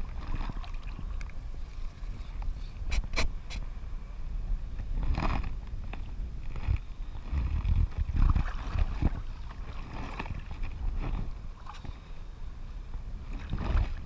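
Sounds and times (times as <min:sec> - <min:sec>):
sea water lapping and sloshing: 0:00.0 - 0:03.0, 0:05.0 - 0:12.6, 0:13.2 - 0:14.0
wind buffeting microphone: 0:00.0 - 0:14.0.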